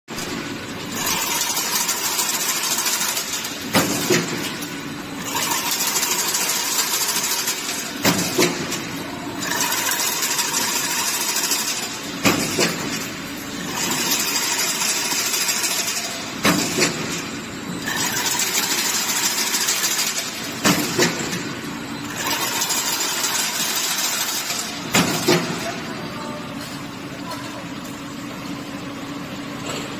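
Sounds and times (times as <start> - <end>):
fence machine running: 0.8 - 26.4.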